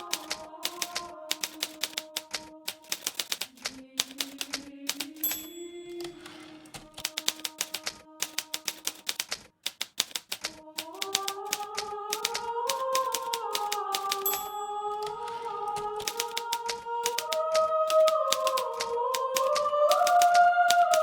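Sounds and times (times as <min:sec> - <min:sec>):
typewriter margin bell ringing: 0:00.0 - 0:10.3, 0:12.7 - 0:17.3, 0:17.9 - 0:18.7, 0:19.4 - 0:21.0
typewriter keys clacking: 0:00.0 - 0:21.0.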